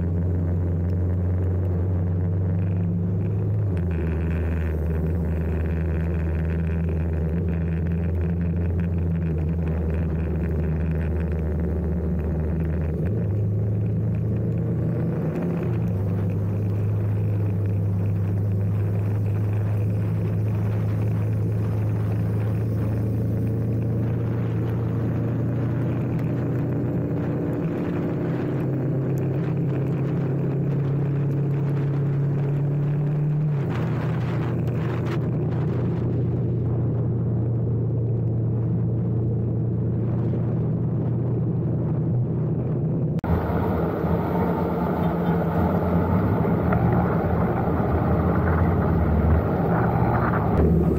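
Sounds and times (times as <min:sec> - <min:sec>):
motorcycle engine cruising: 0:00.0 - 0:50.9
wind and wet road hiss: 0:01.2 - 0:36.7, 0:43.2 - 0:50.9.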